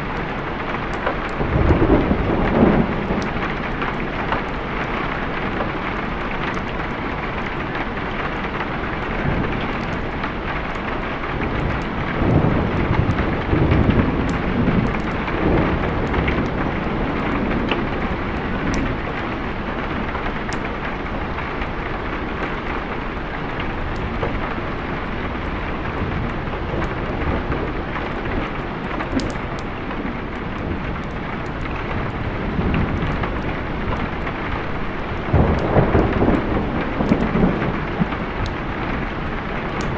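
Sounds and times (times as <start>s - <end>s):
heavy rain: 0.0s - 39.9s
rolling thunder rumble: 0.0s - 39.9s.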